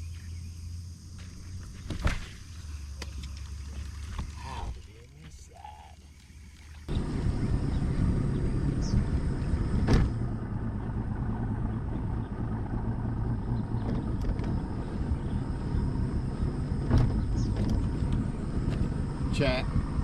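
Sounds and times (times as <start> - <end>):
boat engine rumbling: 0.0 - 20.0
wind: 0.0 - 20.0
water noise: 1.2 - 20.0.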